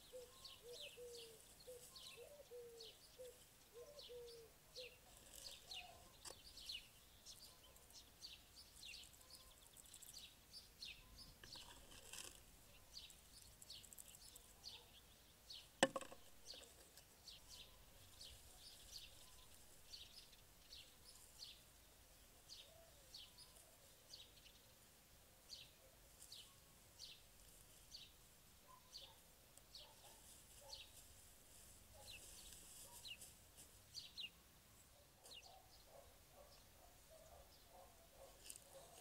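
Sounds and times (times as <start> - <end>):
bird chirping: 0.0 - 24.8, 27.9 - 31.0, 33.9 - 39.0.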